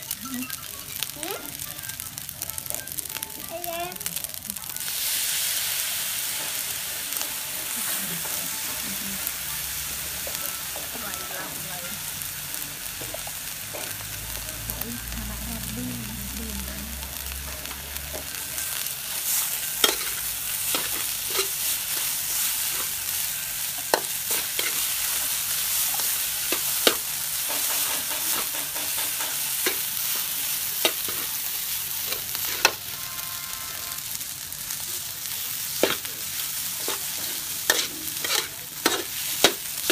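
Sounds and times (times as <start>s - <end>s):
rice sizzling in a wok: 0.0s - 39.9s.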